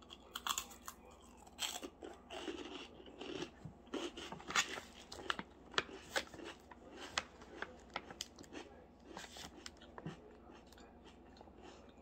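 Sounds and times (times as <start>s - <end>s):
crunchy chewing: 0.0s - 12.0s.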